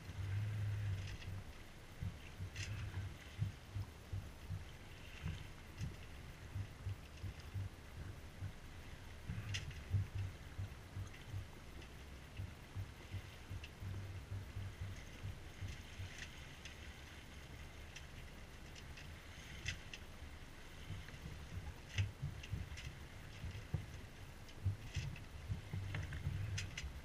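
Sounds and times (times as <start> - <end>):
water splashing along hull: 0.0 - 27.0
wind buffeting microphone: 0.0 - 27.0.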